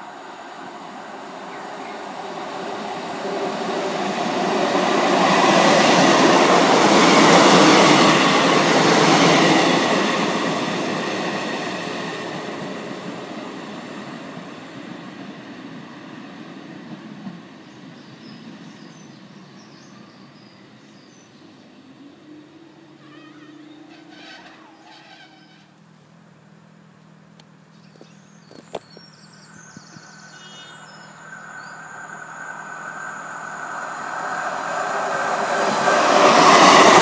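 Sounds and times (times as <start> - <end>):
diesel train passing: 0.0 - 37.0.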